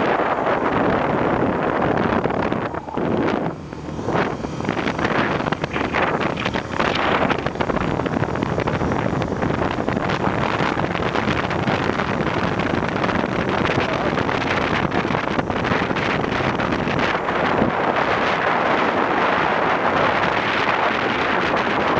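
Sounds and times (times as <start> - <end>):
road noise: 0.0 - 21.9
wind buffeting microphone: 0.0 - 21.9.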